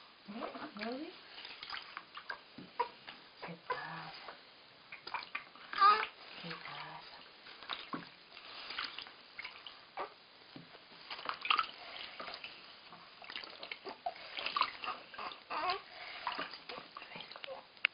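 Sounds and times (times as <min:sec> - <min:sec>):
bathwater splashing and trickling: 0:00.3 - 0:17.8
water dripping: 0:00.3 - 0:17.9.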